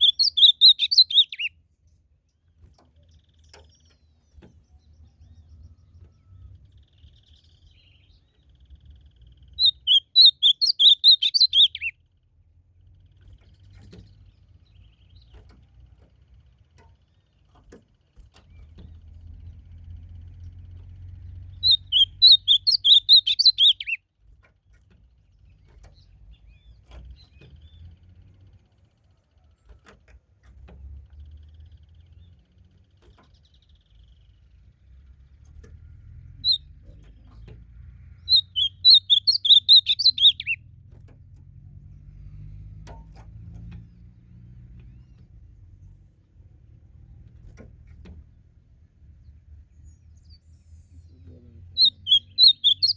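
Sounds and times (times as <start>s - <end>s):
bird singing warbled phrases: 0.0s - 24.2s, 24.8s - 29.6s, 30.8s - 40.8s, 48.2s - 52.9s.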